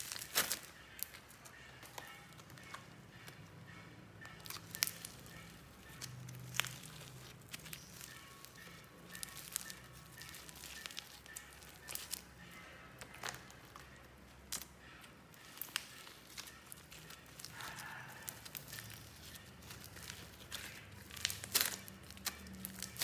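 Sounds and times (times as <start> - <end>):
faint background music: 0.0 - 23.0.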